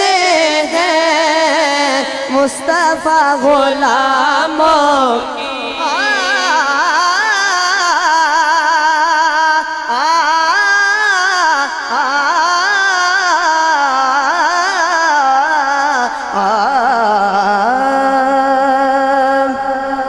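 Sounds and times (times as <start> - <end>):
young man singing: 0.0 - 20.0.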